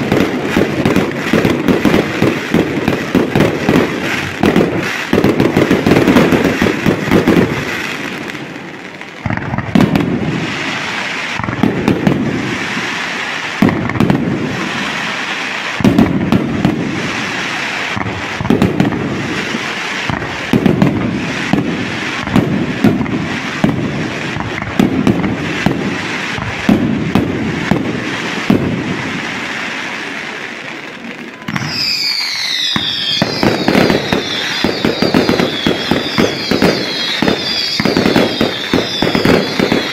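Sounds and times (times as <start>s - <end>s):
firework booms and crackling: 0.0s - 39.9s
whistling fireworks: 0.0s - 39.9s.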